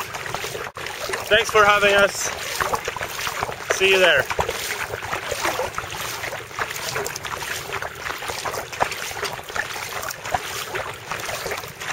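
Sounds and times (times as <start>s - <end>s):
paddle blades splashing: 0.0s - 11.9s
water rushing past kayak: 0.0s - 11.9s.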